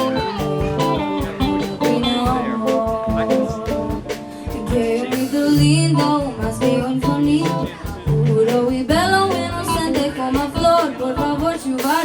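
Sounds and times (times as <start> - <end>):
bass notes: 0.0 - 11.6
guitar: 0.0 - 12.0
percussion beat: 0.0 - 12.0.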